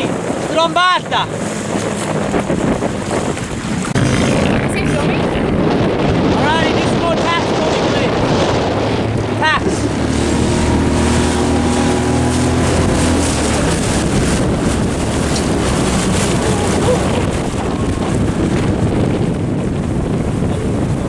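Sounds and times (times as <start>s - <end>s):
boat engine hum: 0.0s - 21.0s
rushing water: 0.0s - 21.0s
wind buffeting microphone: 0.0s - 21.0s.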